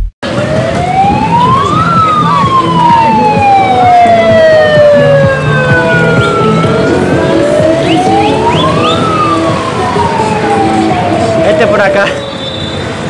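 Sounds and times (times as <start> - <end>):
police siren wailing: 0.3 - 12.4.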